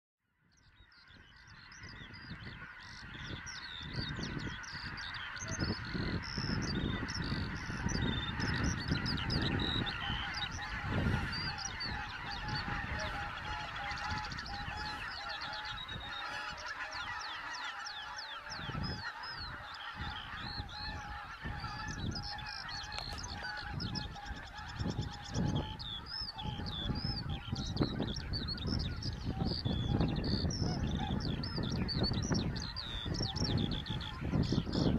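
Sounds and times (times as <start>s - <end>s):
flock of geese honking: 0.6s - 34.9s.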